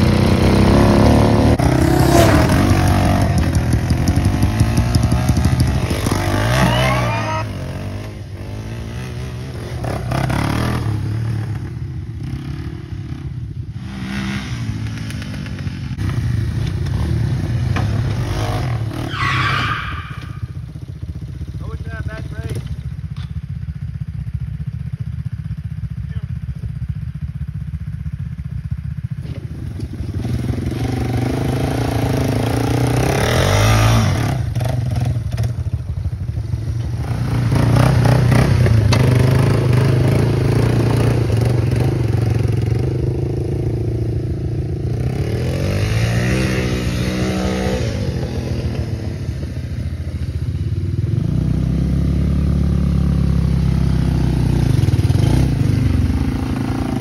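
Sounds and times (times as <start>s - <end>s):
atv engine revving: 0.0s - 23.3s, 29.0s - 57.0s.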